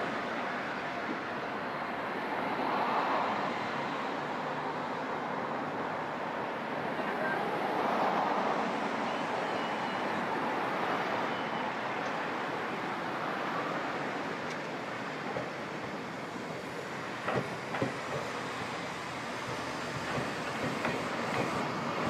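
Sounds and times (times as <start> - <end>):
electric train rolling on track: 0.0 - 22.0.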